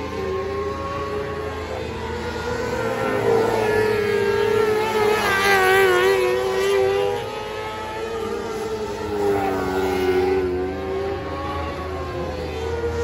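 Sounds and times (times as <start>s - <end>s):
sprint car engines revving high: 0.0s - 13.0s.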